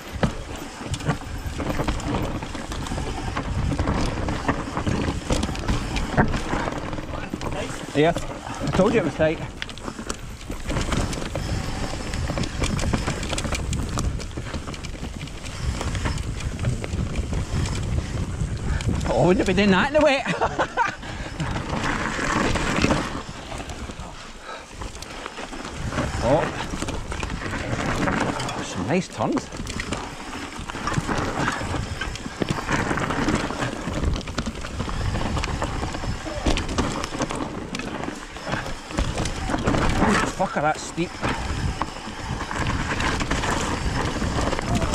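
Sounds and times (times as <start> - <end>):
bike clicks and rattles: 0.0 - 44.9
bike tyres rumbling over dirt: 0.0 - 44.9
wind rumble on microphone: 0.0 - 44.9.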